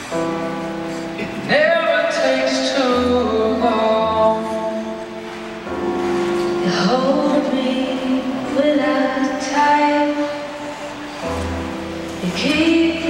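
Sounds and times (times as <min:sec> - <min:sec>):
slow ballad over sound system: 0:00.0 - 0:13.0.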